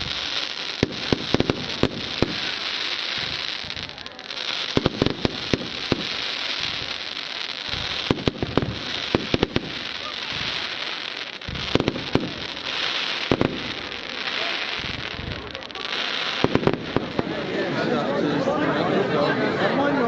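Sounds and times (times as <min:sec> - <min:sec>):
fireworks bangs: 0:00.0 - 0:18.1
fireworks crackling hiss: 0:00.0 - 0:18.1.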